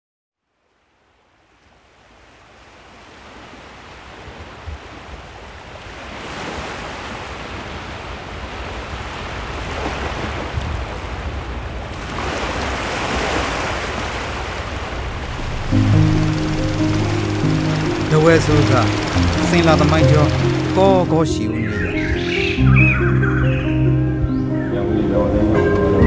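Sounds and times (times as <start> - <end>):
ocean waves washing in: 1.2 - 22.6.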